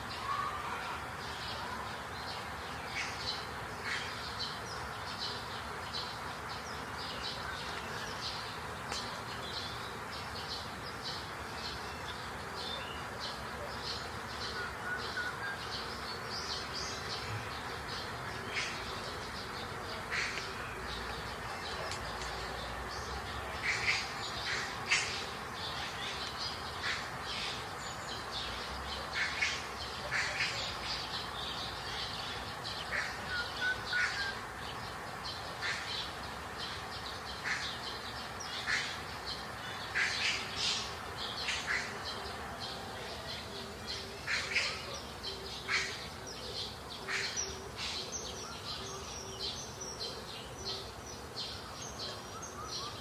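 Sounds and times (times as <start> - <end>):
background hiss: 0.0 - 53.0
birds chirping: 0.0 - 53.0.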